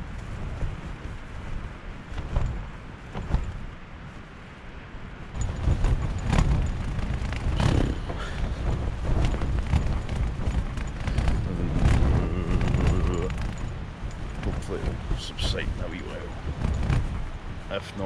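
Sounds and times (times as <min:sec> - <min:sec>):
strong wind gusts: 0:00.0 - 0:18.0
tent fabric flapping: 0:00.0 - 0:18.0.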